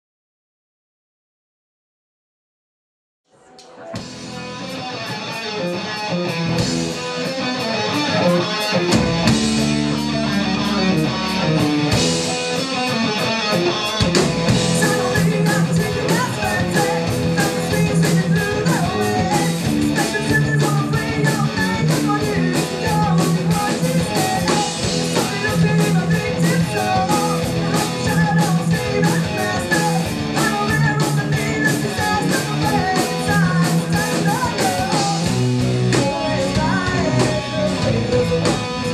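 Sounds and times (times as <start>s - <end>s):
hard rock band playing live: 3.9s - 38.9s
steady drumming: 4.0s - 38.9s.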